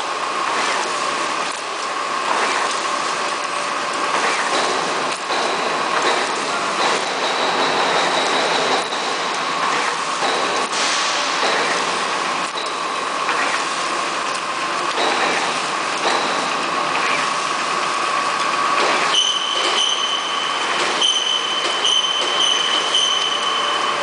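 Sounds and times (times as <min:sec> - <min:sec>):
high machine whine: 0:00.0 - 0:24.0
machine clatter: 0:00.0 - 0:24.0.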